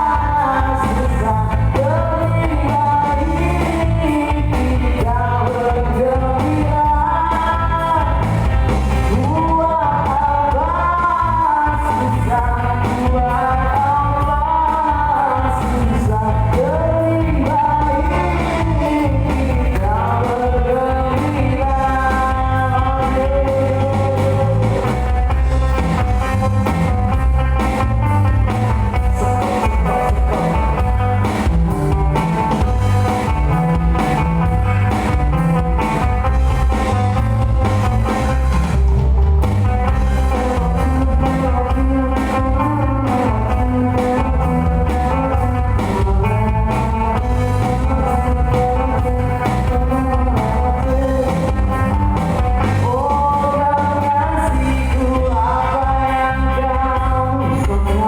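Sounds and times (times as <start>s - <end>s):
person singing lead vocal: 0.0s - 58.0s
rock band playing: 0.0s - 58.0s.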